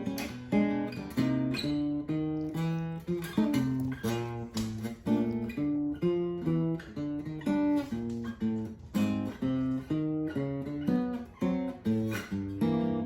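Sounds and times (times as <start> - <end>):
acoustic guitar playing slowly: 0.0 - 13.0.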